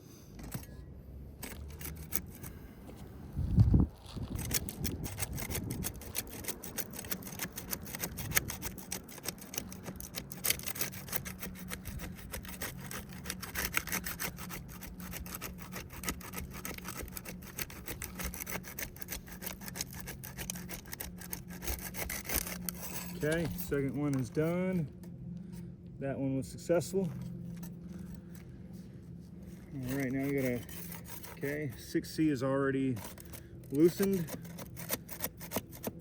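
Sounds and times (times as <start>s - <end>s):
steady low hum: 0.0s - 36.0s
pry tool scraping under shingle: 1.4s - 25.7s, 26.6s - 36.0s.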